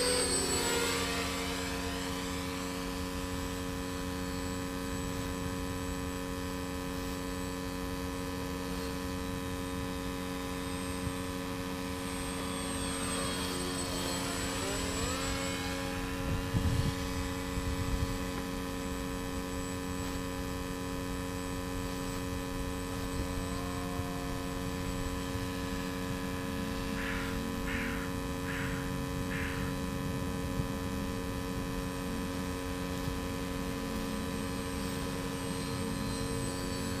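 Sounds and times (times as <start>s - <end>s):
model airplane propeller hum: 0.0s - 37.0s.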